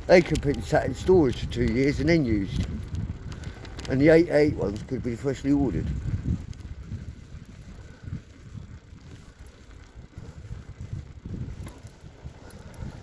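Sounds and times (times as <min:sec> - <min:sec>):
tyres rumbling on road: 0:00.0 - 0:13.0
wind buffeting microphone: 0:00.0 - 0:13.0.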